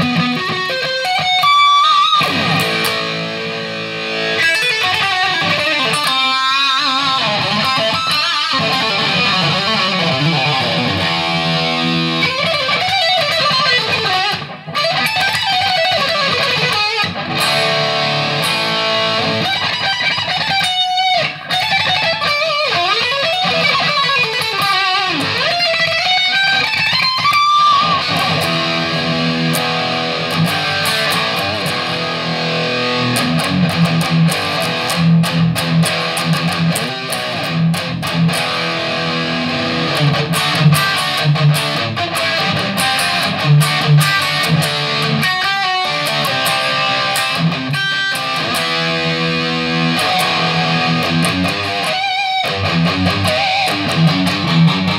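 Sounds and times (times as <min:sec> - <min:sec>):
distorted electric guitar: 0:00.0 - 0:54.9.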